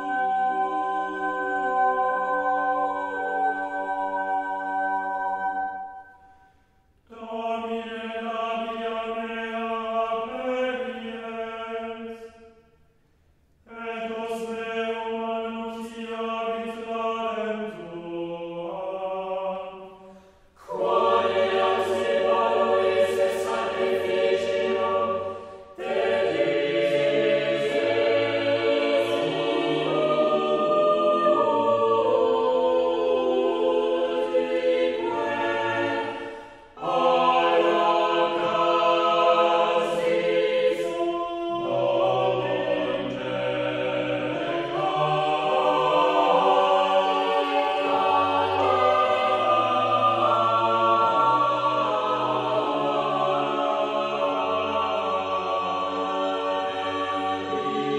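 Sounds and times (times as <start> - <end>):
choir singing held chords: 0.0 - 12.9, 13.6 - 57.9.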